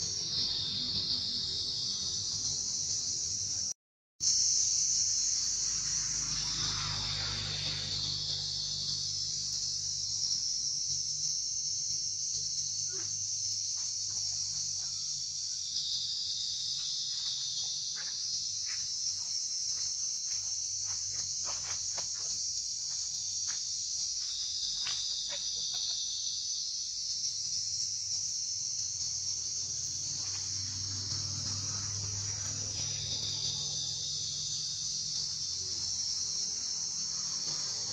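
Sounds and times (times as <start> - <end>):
high-pitched insect chorus buzzing: 0.0 - 37.9.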